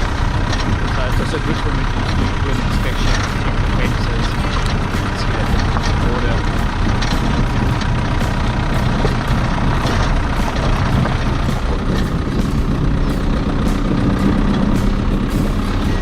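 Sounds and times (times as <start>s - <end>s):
light clicking rattles: 0.0s - 16.0s
vehicle engine running: 0.0s - 16.0s.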